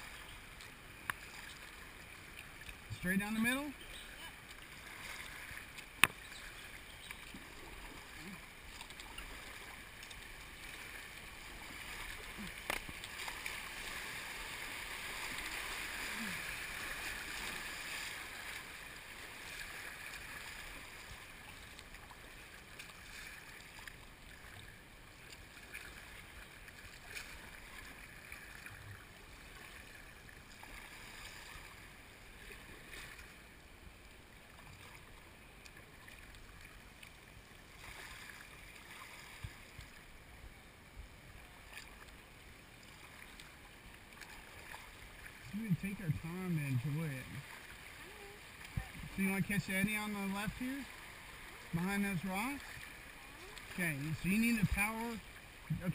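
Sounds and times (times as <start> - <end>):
paddle strokes: 0.0 - 33.5, 34.4 - 40.0, 41.3 - 55.9
river water rushing: 0.0 - 55.9.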